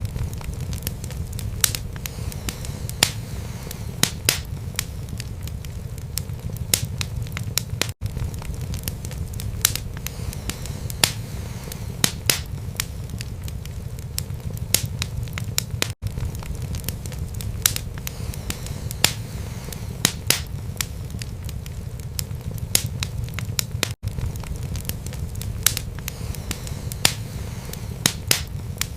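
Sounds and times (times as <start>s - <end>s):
fire rumbling: 0.0s - 28.9s
logs crackling and popping: 0.0s - 28.9s.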